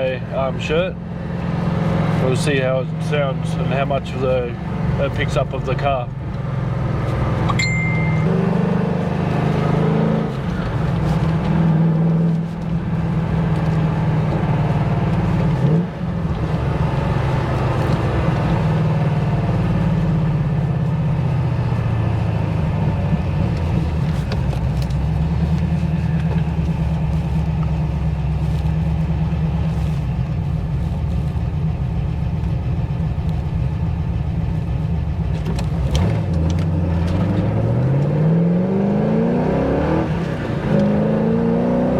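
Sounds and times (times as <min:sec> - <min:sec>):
car engine and exhaust revving: 0:00.0 - 0:41.9.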